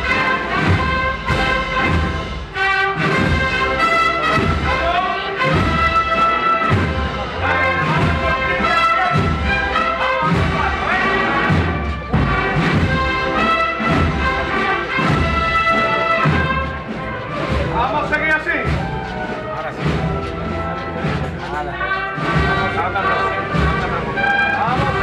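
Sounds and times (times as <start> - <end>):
brass melody: 0.0 - 25.0
steady drum beats: 0.0 - 25.0.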